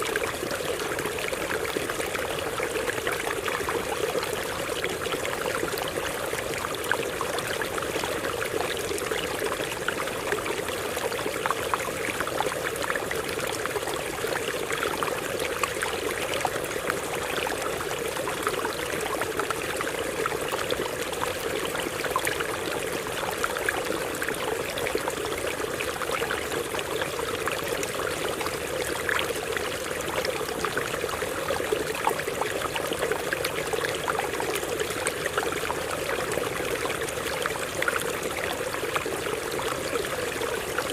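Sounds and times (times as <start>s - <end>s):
stream water running over rocks: 0.0s - 40.9s.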